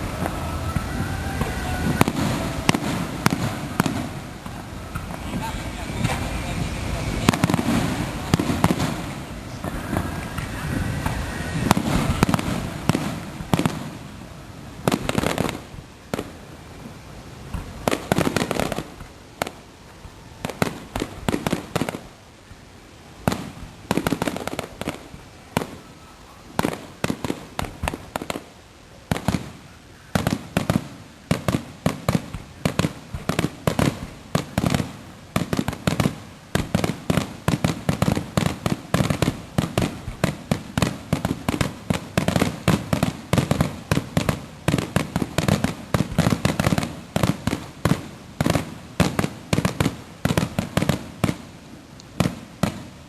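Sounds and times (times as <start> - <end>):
fireworks bursting in sharp bangs: 0.0 - 22.6, 23.2 - 53.0.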